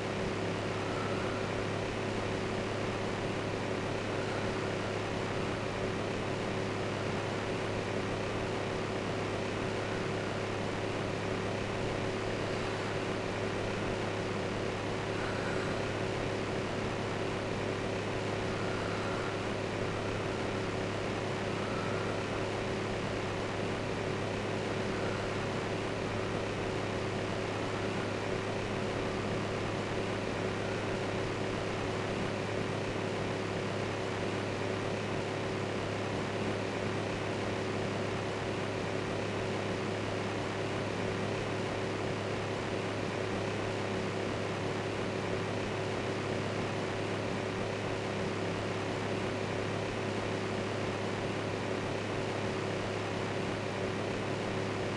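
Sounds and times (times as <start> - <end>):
electric fan whirring: 0.0 - 54.9.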